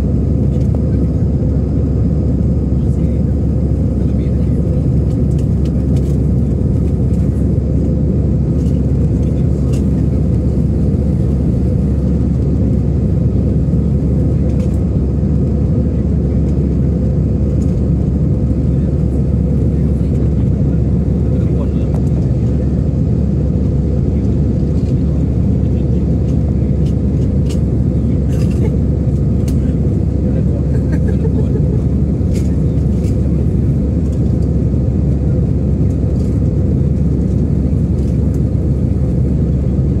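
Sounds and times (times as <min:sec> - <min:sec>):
jet engine rumble in cabin: 0:00.0 - 0:40.0.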